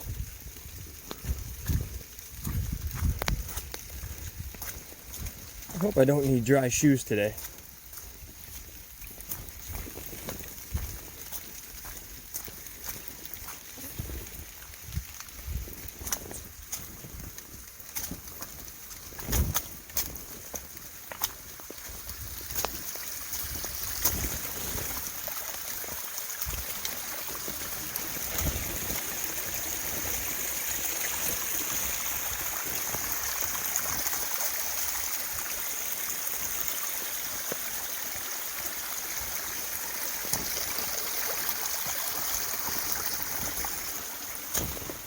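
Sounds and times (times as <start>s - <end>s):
stream running: 0.0s - 45.0s.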